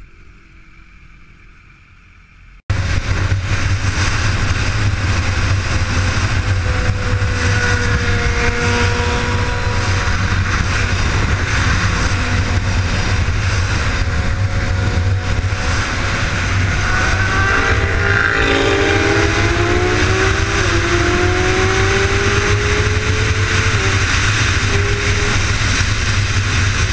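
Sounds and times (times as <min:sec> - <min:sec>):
wind and road noise: 0:00.0 - 0:26.9
motorcycle engine running: 0:02.7 - 0:26.9.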